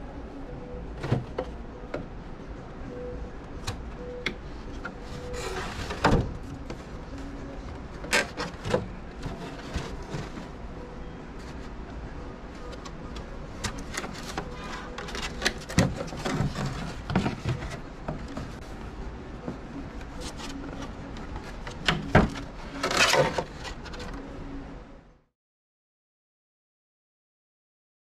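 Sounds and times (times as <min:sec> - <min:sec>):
steady low hum: 0:00.0 - 0:25.3.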